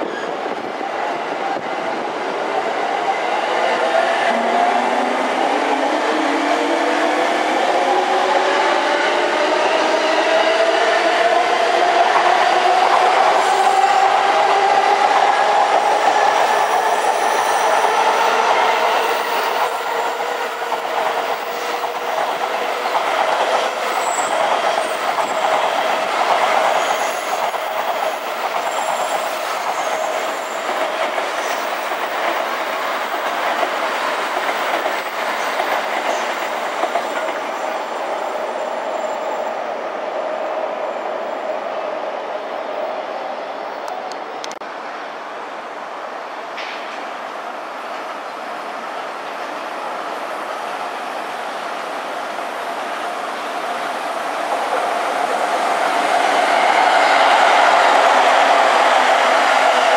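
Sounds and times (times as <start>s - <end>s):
train wheels on rails: 0.0s - 39.6s, 46.4s - 59.9s.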